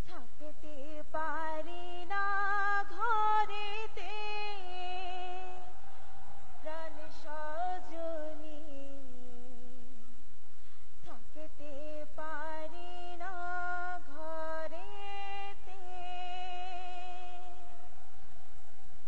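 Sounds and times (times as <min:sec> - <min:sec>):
woman singing through a microphone: 0:00.0 - 0:10.1, 0:11.0 - 0:18.6
faint steady hum: 0:00.0 - 0:19.0.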